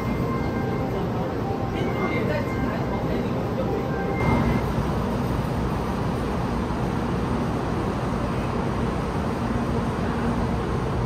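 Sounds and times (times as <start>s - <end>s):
faint hum: 0.0s - 11.0s
train rumble and hiss: 0.0s - 11.0s.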